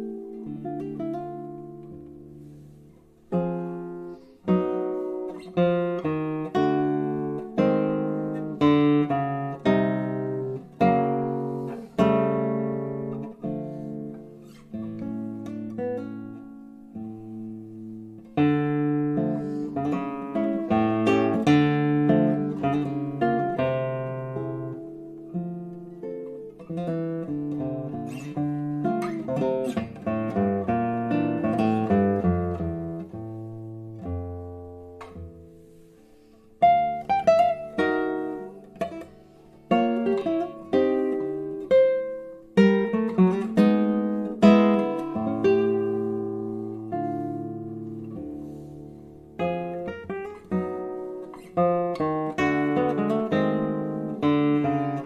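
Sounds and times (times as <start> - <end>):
solo classical guitar: 0.0 - 55.0.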